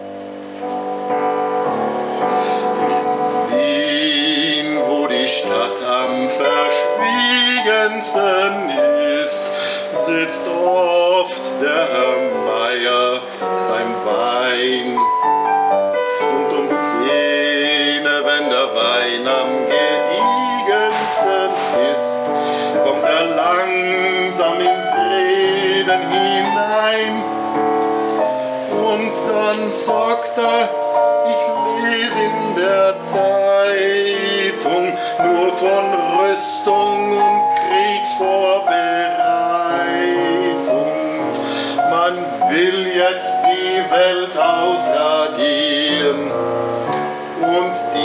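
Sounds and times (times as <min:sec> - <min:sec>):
sustained keyboard accompaniment: 0:00.0 - 0:48.0.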